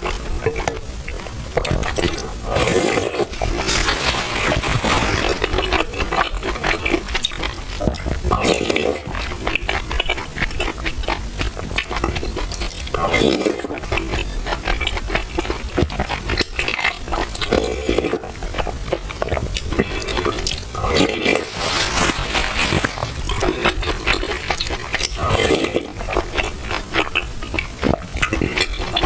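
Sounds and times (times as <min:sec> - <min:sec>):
wet chewing: 0:00.0 - 0:29.0.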